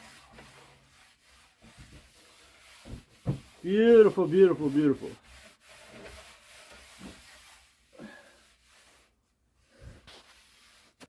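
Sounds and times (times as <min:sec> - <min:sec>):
cloth rubbing oil onto wood: 0:00.0 - 0:11.0.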